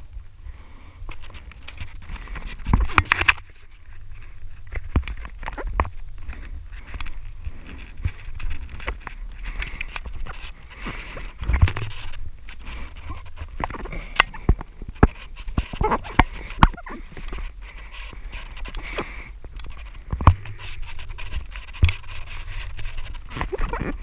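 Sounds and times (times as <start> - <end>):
footsteps on rock: 1.2 - 24.0
shoes and hands scraping rock: 1.2 - 24.0.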